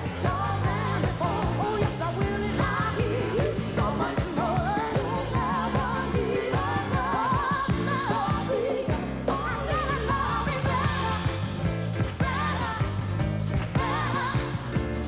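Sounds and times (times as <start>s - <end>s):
bass line: 0.0s - 15.0s
group singing a pop song: 0.0s - 15.0s
steady drum beat: 0.0s - 15.0s.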